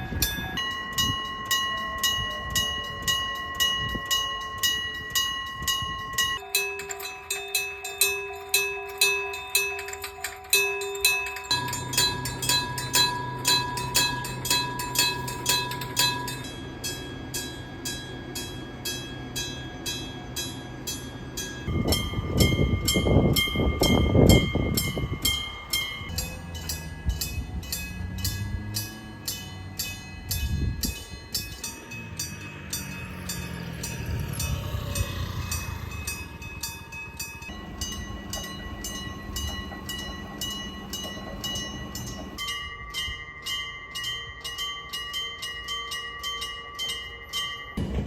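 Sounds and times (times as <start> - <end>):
level-crossing warning bell: 0.0 - 48.0
train passing with rumble: 0.0 - 48.0.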